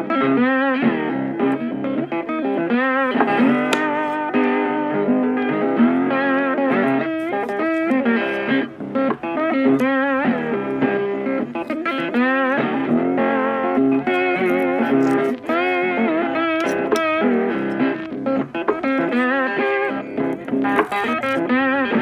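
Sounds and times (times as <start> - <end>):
electric guitar melody: 0.0 - 22.0.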